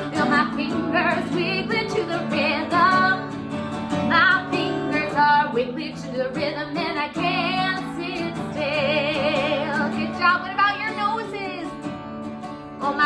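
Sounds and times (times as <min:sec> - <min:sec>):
woman singing children's song: 0:00.0 - 0:03.3, 0:04.0 - 0:11.8.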